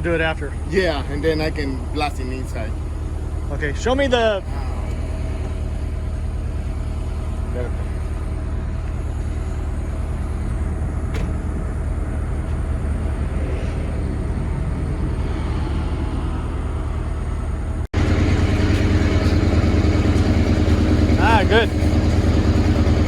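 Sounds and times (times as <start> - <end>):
motor droning hum: 0.0 - 23.0.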